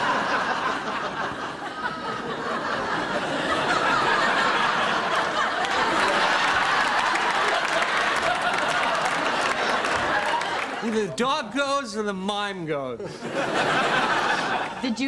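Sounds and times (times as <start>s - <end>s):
audience laughing: 0.0s - 12.0s, 12.7s - 15.0s.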